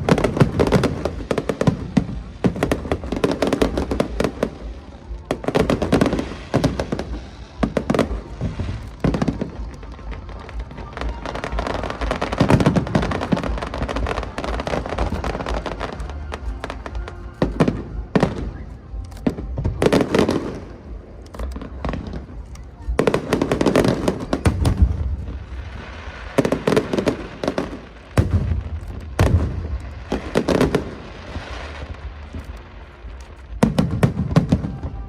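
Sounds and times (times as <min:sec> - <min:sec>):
fireworks booming and crackling: 0:00.0 - 0:35.0
music playing: 0:00.0 - 0:35.0.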